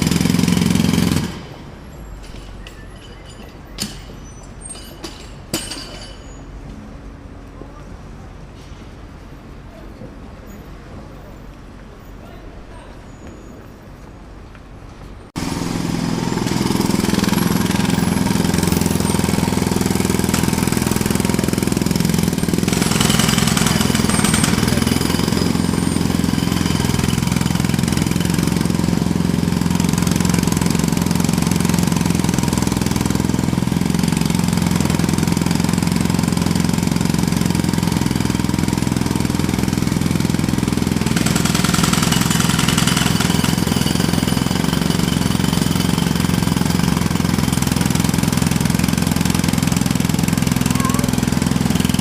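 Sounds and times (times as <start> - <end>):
jackhammer breaking pavement: 0.0 - 6.4, 15.4 - 52.0.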